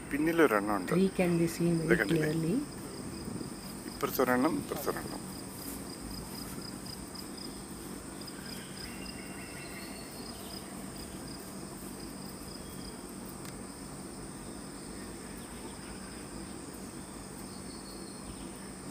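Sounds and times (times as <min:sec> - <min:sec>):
insects high-pitched drone: 0:00.0 - 0:18.9
insects pulsing trill: 0:00.0 - 0:18.9.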